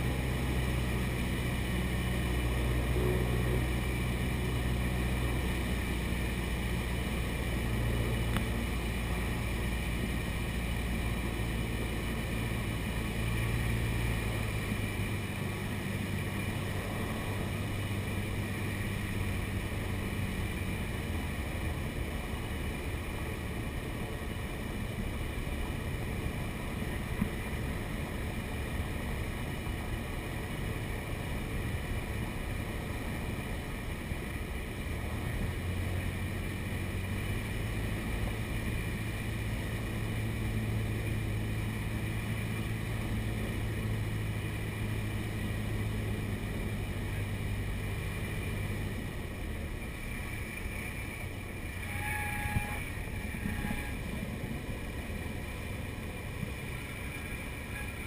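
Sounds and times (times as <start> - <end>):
airplane engine and propeller droning: 0.0 - 58.0.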